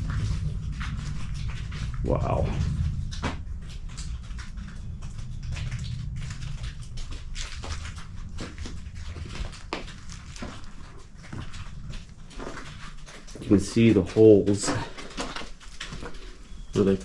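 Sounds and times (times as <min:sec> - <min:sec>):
low rumble: 0:00.0 - 0:15.1
footsteps crunching on loose ground: 0:00.0 - 0:17.0.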